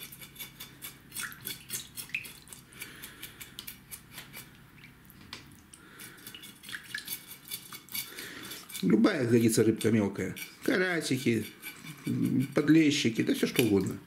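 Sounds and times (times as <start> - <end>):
knife scraping fish scales: 0.0 - 4.6, 5.9 - 13.9.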